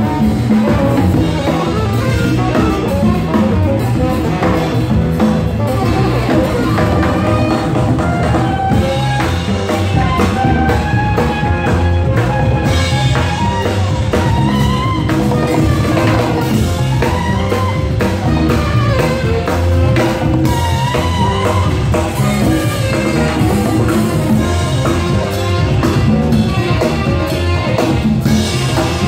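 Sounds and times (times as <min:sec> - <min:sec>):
drum kit with cymbals: 0:00.0 - 0:29.0
guitar: 0:00.0 - 0:29.0
saxophone melody: 0:00.0 - 0:29.0.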